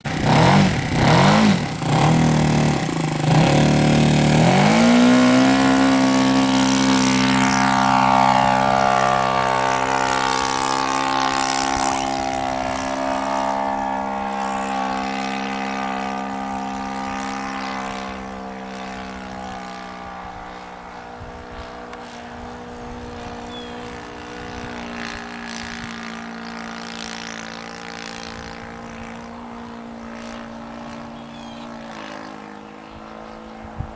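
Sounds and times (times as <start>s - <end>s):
model plane engine droning: 0.0s - 33.9s.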